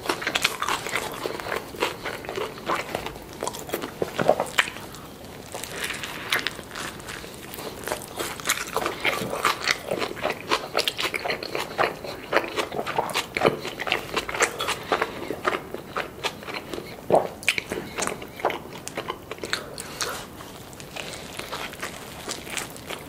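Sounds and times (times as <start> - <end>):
close-miked chewing: 0.0 - 23.0.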